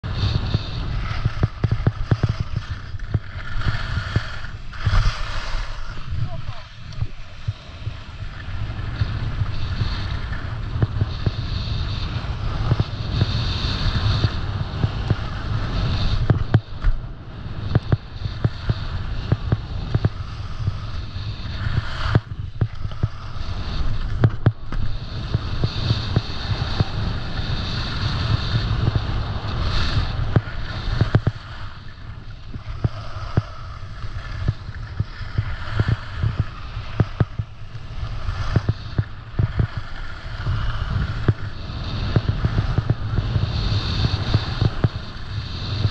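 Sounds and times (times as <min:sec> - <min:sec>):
wind buffeting microphone: 0:00.0 - 0:45.9
skis scraping over snow: 0:00.1 - 0:45.9.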